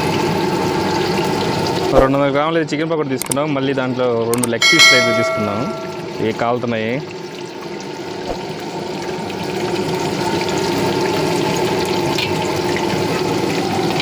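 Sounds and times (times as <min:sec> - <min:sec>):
chicken sizzling in hot oil: 0:00.0 - 0:03.1, 0:03.7 - 0:14.0.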